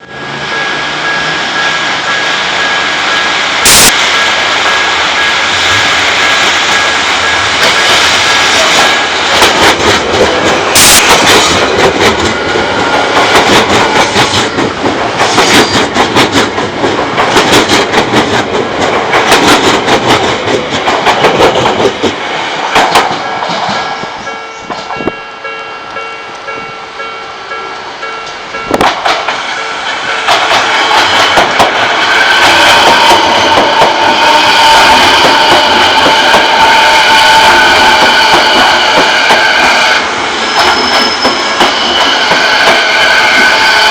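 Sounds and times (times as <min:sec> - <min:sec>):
crossing warning bell ringing: 0:00.0 - 0:14.9, 0:23.2 - 0:43.9
train wheels clattering: 0:00.5 - 0:25.3, 0:28.2 - 0:43.9.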